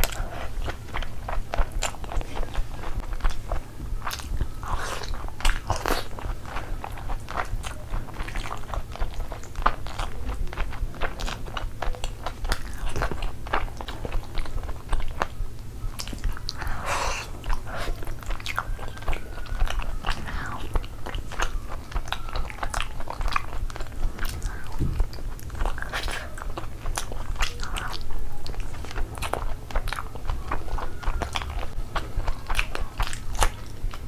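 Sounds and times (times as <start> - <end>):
wet chewing and lip-smacking: 0.0 - 34.0.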